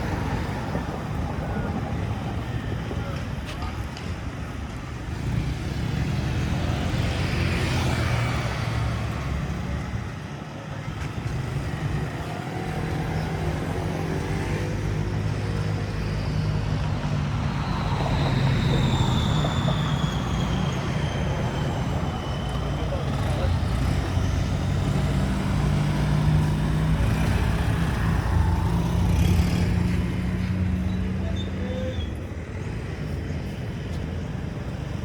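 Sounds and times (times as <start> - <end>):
vehicle engines passing: 0.0 - 35.0.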